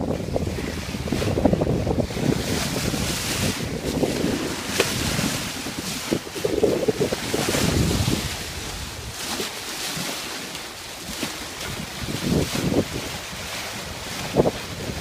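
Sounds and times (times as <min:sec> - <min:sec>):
wind buffeting microphone: 0:00.0 - 0:09.6, 0:11.0 - 0:15.0
water rushing along hull: 0:00.0 - 0:15.0.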